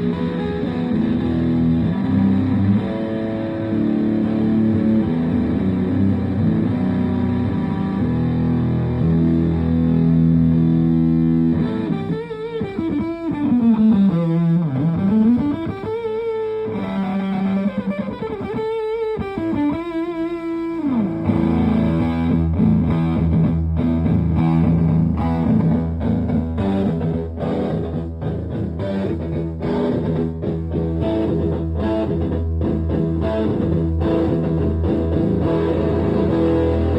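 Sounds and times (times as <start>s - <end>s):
fuzzed electric guitar: 0.0s - 36.9s.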